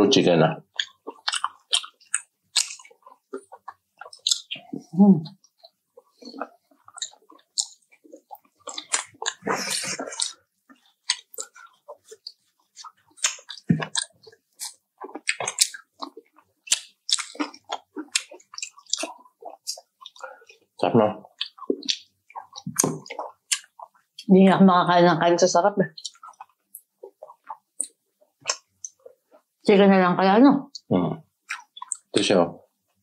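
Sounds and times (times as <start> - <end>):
person chewing fried chicken: 0.7 - 24.3, 25.9 - 29.6, 31.4 - 32.2
wet mouth clicks: 0.7 - 24.3, 25.8 - 29.6, 30.7 - 32.2.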